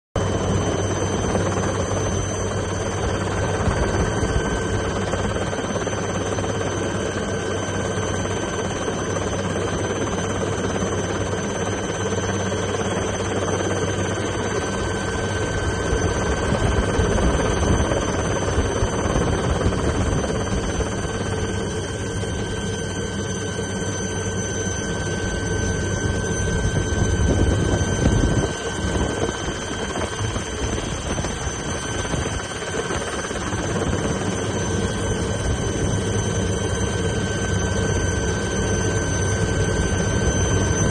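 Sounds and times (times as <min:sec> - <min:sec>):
helicopter engine and rotor noise: 0:00.2 - 0:40.9
high steady whine: 0:00.2 - 0:40.9.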